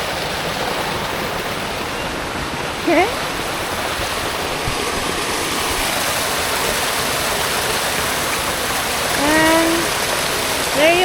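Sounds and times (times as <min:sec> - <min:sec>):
mountain stream flowing: 0:00.0 - 0:11.0.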